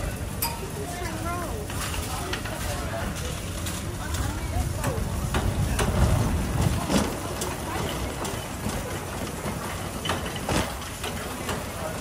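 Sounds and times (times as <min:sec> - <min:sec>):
trolley wheels rumbling on concrete: 0:00.0 - 0:12.0.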